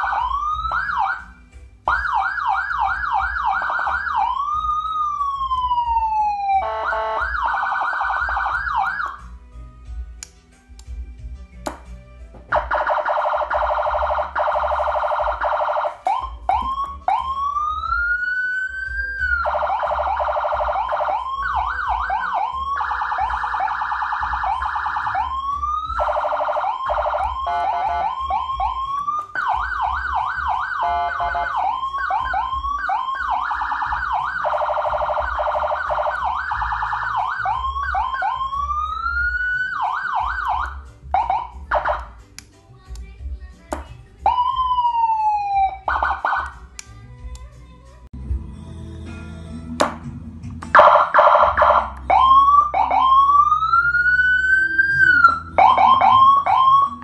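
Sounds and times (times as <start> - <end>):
electronic siren: 0.0 - 9.2, 12.6 - 42.2, 44.3 - 46.6, 50.8 - 57.0.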